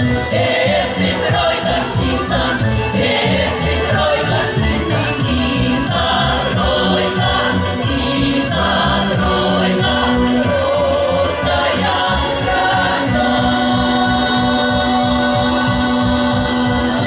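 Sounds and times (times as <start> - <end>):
folk choir singing: 0.0 - 17.0.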